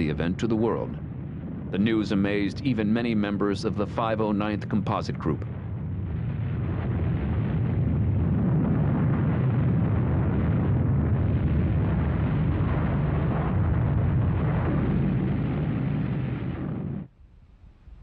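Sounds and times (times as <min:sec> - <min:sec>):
deep explosion rumble: 0:00.0 - 0:18.0.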